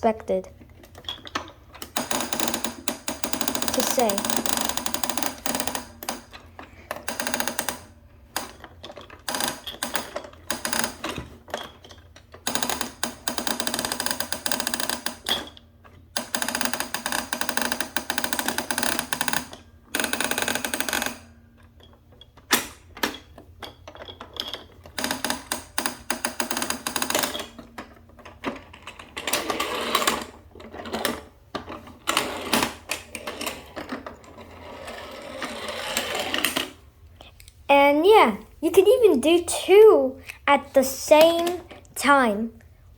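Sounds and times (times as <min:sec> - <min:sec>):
toy train motor and gears clattering: 0:00.6 - 0:36.8, 0:38.0 - 0:42.4.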